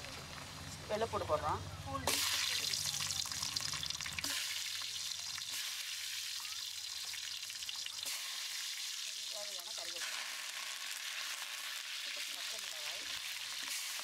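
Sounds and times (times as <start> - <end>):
oil sizzling with garlic frying: 0.0 - 14.0.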